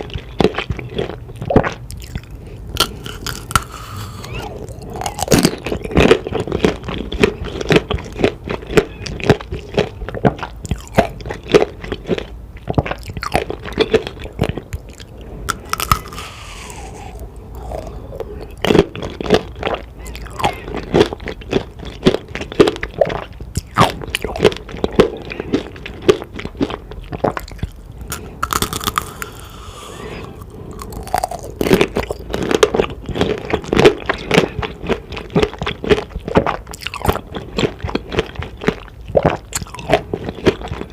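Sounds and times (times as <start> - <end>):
crunching candied fruit: 0.0 - 40.9.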